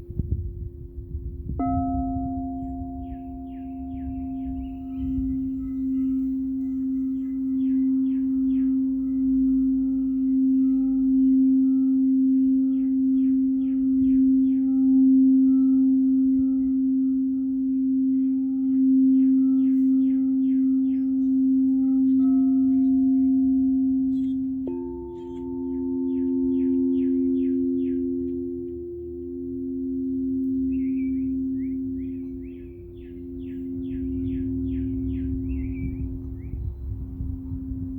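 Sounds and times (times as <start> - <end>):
singing bowls ringing: 0.0 - 37.9
bird trills: 1.8 - 15.0, 18.1 - 37.9.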